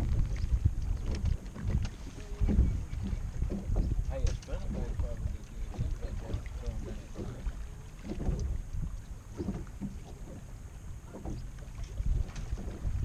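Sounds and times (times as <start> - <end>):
waves lapping against boat hull: 0.0 - 13.0
wind buffeting microphone: 0.0 - 13.0.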